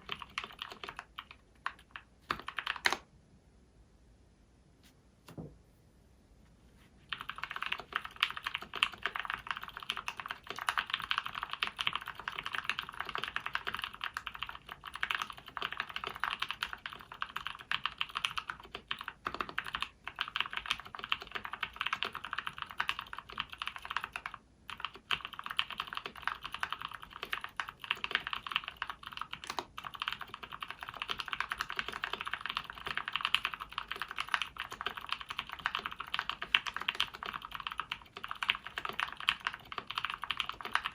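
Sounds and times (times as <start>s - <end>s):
fast typing on mechanical keyboard: 0.0s - 3.0s, 7.1s - 40.9s.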